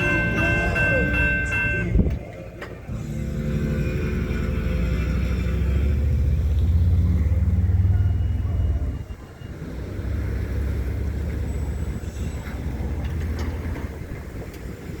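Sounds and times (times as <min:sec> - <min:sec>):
train rolling past: 0:00.0 - 0:15.0.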